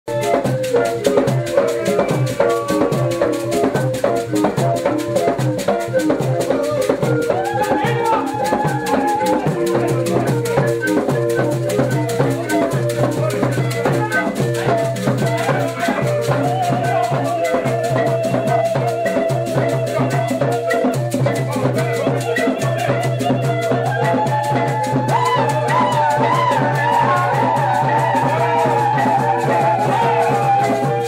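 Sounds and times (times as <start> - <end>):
background music with rattle beat: 0.1 - 31.0.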